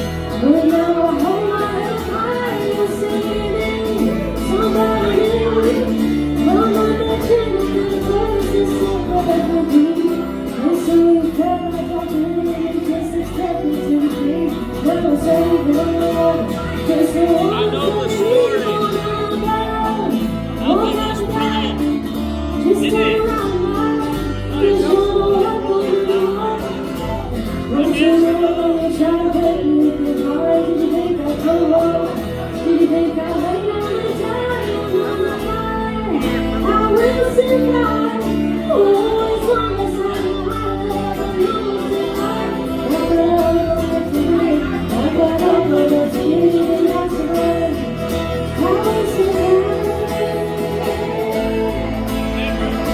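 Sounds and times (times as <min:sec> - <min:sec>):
live band playing: 0:00.0 - 0:52.9.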